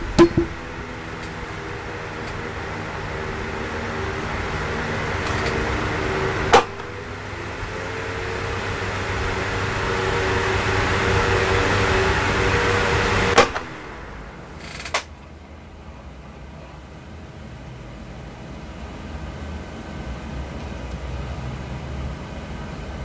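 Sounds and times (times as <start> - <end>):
electric fan whirring: 0.0 - 23.0.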